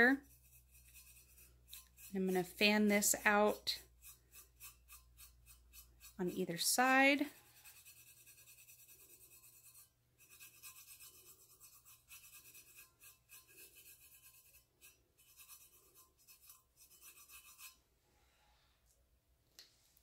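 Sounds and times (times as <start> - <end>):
fingertip rubbing on steel: 0.1 - 17.8.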